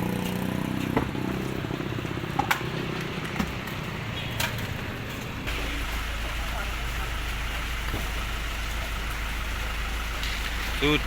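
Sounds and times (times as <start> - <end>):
garbage truck engine running: 0.3 - 11.0.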